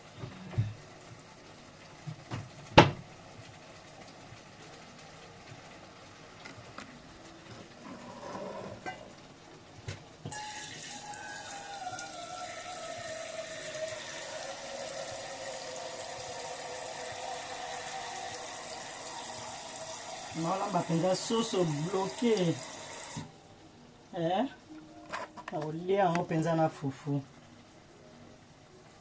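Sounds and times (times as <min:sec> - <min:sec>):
tap water running: 0:00.0 - 0:23.4.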